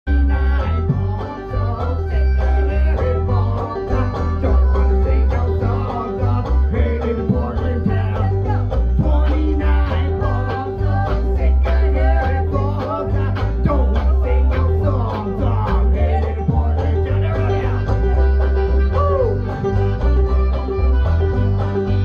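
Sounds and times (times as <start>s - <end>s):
heavy bass line: 0.1s - 22.0s
plucked strings: 0.1s - 22.0s.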